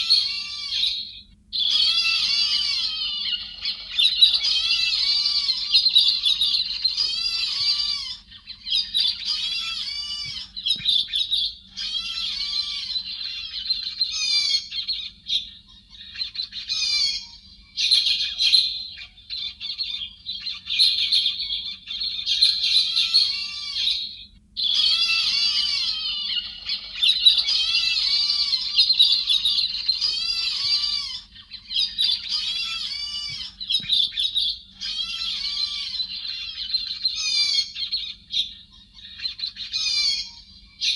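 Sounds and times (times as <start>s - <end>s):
birds harsh chattering: 0.0s - 40.9s.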